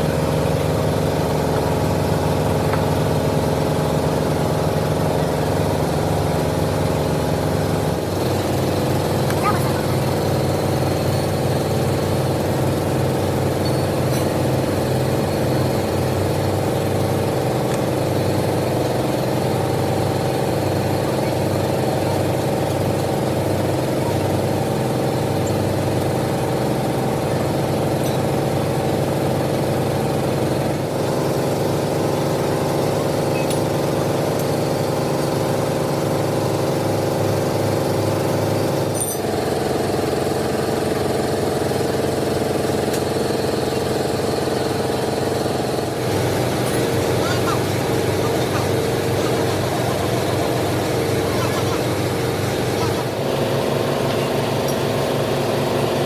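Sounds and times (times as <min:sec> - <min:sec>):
heavy machine droning: 0:00.0 - 0:56.0.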